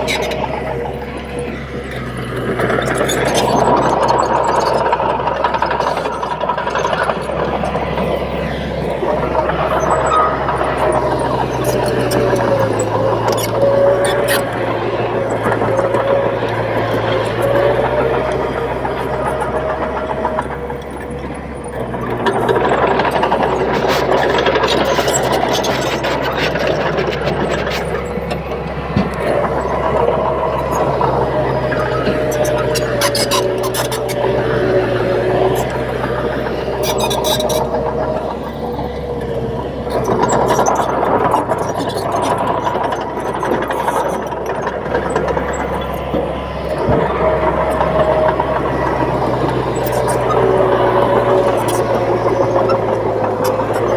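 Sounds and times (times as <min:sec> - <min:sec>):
bulldozer diesel engine: 0:00.0 - 0:53.9
rapid clatter of clicks and knocks: 0:00.0 - 0:53.9.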